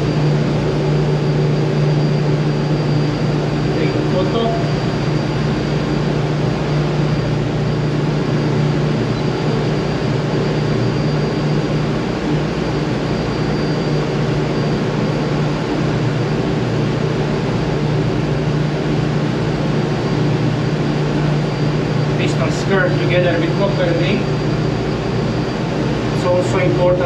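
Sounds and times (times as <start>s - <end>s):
faint high whine: 0.0s - 27.0s
ship engine machinery drone: 0.0s - 27.0s.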